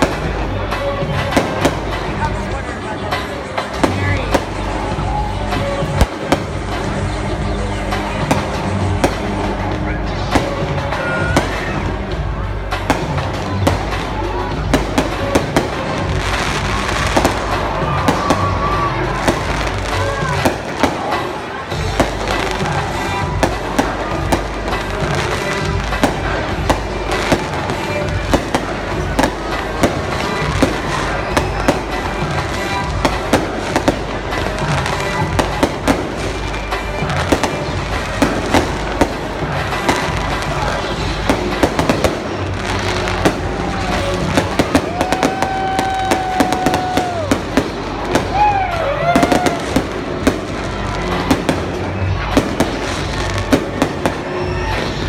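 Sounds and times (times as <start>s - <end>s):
fireworks bangs and crackling: 0.0s - 55.0s
music playing: 0.0s - 55.0s.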